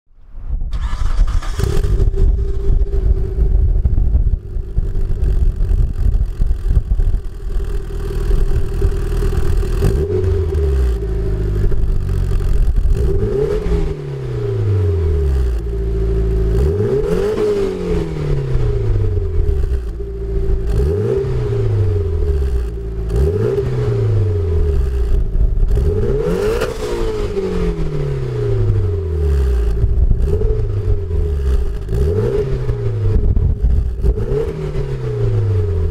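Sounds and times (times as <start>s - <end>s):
car engine idling and revving: 0.8s - 35.9s.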